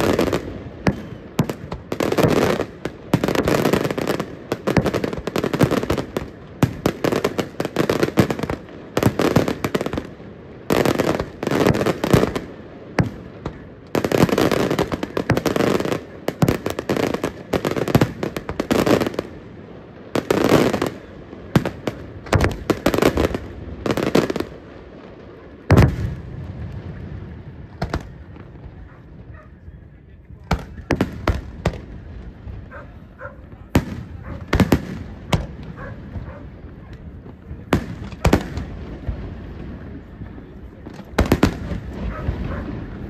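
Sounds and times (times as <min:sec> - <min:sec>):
fireworks bursting: 0:00.0 - 0:43.0
fireworks crackling: 0:00.0 - 0:43.0.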